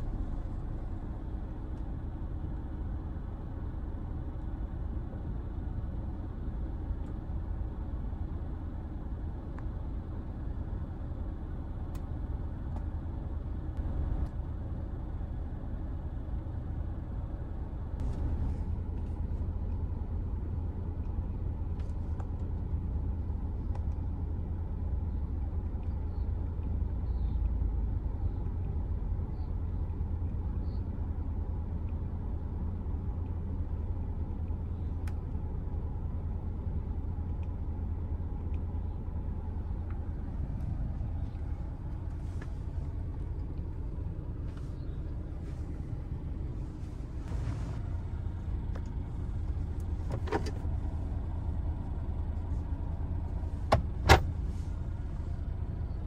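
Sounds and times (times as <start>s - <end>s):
car cabin engine rumble: 0.0s - 56.0s.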